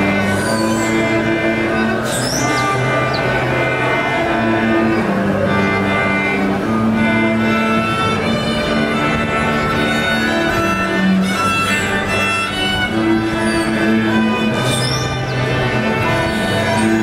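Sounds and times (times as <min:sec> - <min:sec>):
cellos: 0:00.0 - 0:17.0
orchestra playing: 0:00.0 - 0:17.0
violins bowing long notes: 0:00.0 - 0:17.0.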